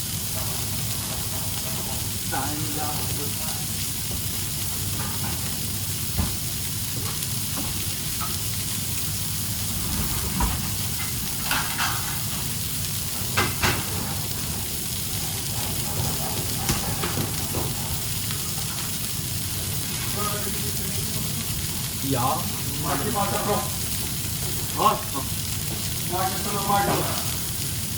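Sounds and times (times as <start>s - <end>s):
food sizzling in a hot pan: 0.0s - 27.9s.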